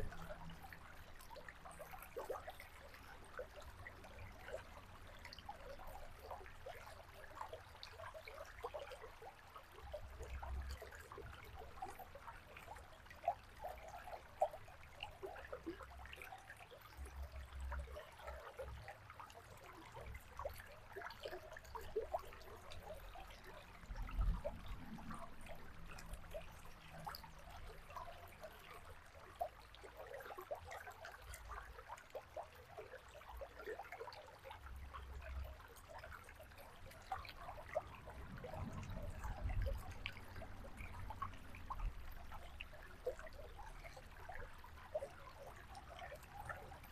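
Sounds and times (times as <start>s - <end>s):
river water babbling: 0.0s - 46.9s.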